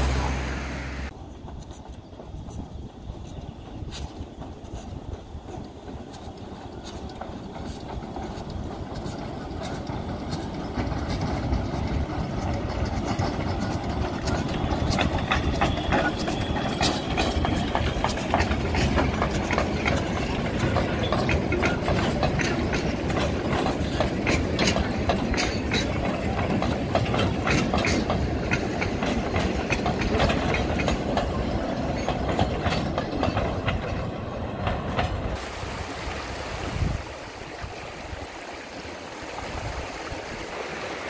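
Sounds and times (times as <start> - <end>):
wheels clanking over track: 0.0 - 35.6
steam train passing: 0.0 - 41.0.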